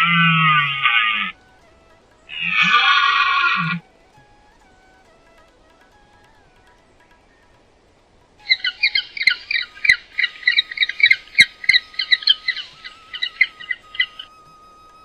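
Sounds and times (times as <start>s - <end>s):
bird calling rapidly: 0.0s - 4.2s, 5.0s - 14.5s.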